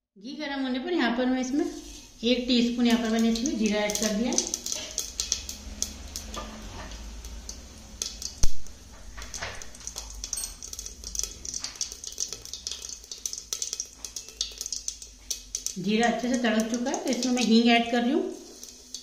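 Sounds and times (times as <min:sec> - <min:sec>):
seeds crackling in hot oil: 0:01.2 - 0:19.0.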